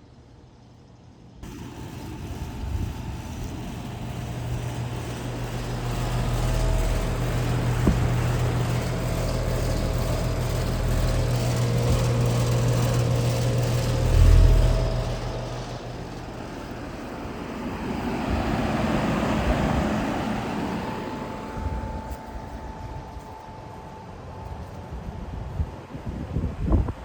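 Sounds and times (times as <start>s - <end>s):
heat pump compressor hum: 0.2s - 27.0s
rushing noise: 1.4s - 26.0s.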